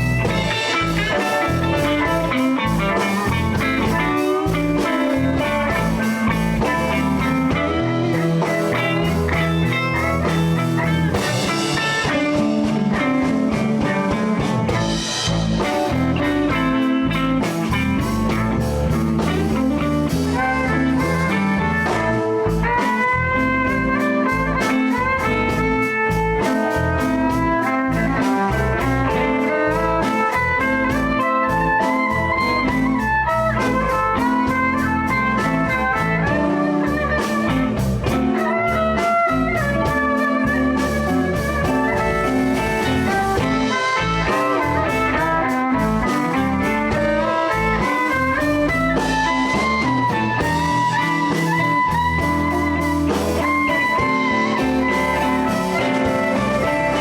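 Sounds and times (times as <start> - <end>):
blues band playing: 0.0 - 57.0
drum beat: 0.0 - 57.0.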